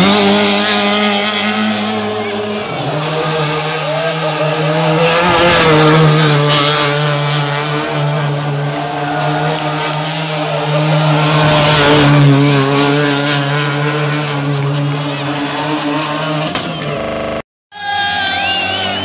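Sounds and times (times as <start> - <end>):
rally car engine revving: 0.0 - 17.4
wheels spinning on tarmac: 0.0 - 19.0.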